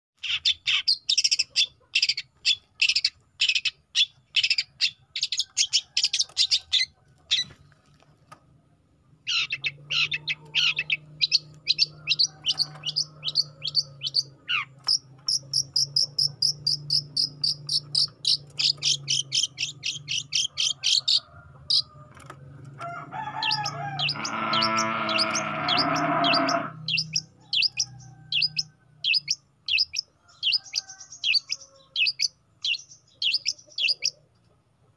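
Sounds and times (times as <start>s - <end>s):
harsh bird chattering: 0.2s - 7.6s, 9.2s - 21.9s, 23.4s - 34.2s.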